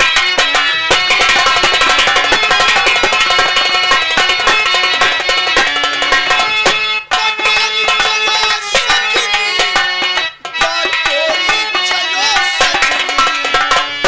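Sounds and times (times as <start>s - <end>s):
quick drum beat: 0.0s - 10.0s, 10.6s - 14.0s
instrumental folk music: 0.0s - 14.0s.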